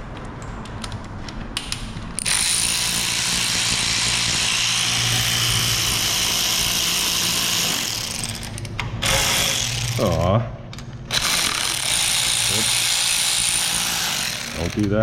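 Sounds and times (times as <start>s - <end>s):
power ratchet running: 2.2s - 10.3s, 11.1s - 15.0s.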